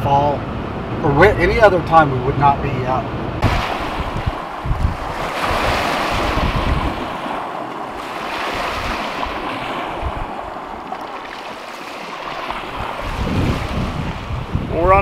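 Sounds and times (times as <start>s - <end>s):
wind buffeting microphone: 0.4s - 15.0s
waves washing up concrete ramp: 2.7s - 15.0s.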